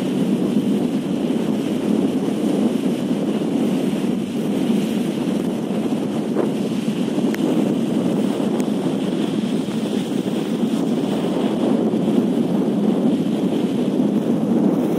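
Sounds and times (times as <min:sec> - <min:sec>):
waves washing against stone: 0:00.0 - 0:14.9
wind on microphone: 0:00.0 - 0:14.9.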